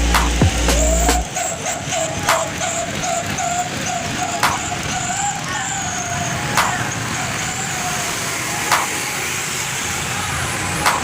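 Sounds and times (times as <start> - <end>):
truck engine noise: 0.0 - 11.0.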